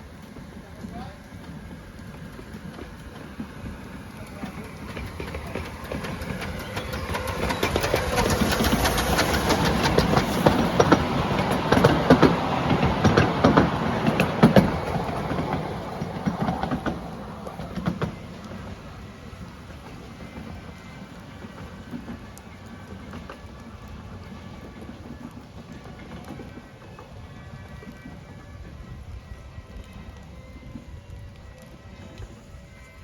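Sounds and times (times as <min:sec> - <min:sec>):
miniature train passing: 0:00.0 - 0:33.0
wheels clicking over rail joints: 0:00.0 - 0:33.0.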